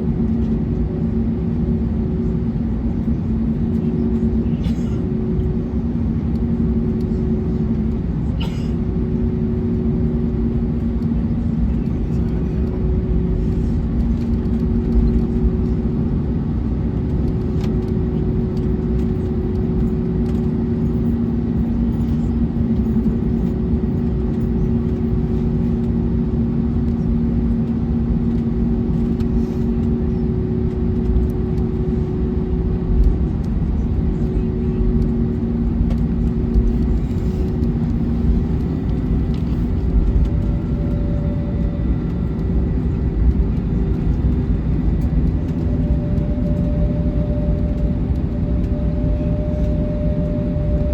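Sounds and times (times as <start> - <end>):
airliner cabin rumble: 0.0 - 50.9
steady hum: 1.0 - 50.9.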